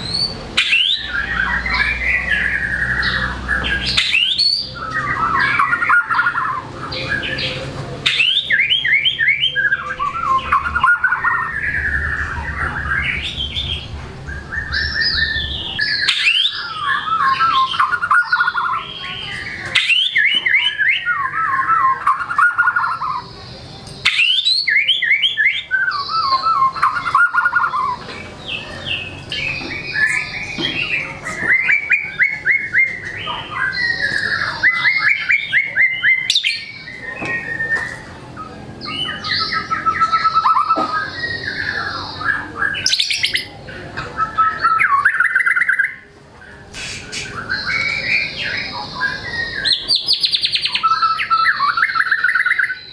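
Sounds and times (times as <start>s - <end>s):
songbird whistling and chattering: 0.0s - 52.9s.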